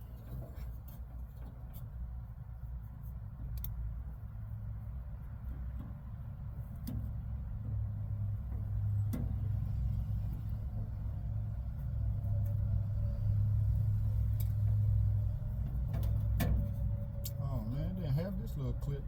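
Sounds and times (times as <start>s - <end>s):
steady low rumble: 2.0s - 19.0s.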